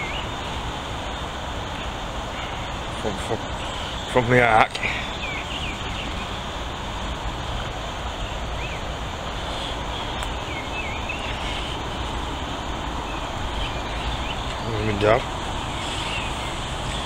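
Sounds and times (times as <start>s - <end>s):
faint bird chirps: 0.0s - 6.6s, 8.1s - 17.0s
outdoor background rumble and hiss: 0.0s - 17.0s.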